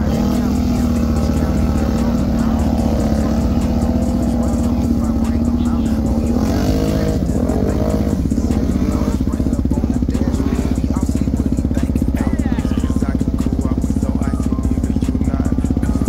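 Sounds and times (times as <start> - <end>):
atv engine running under load: 0.0 - 16.0.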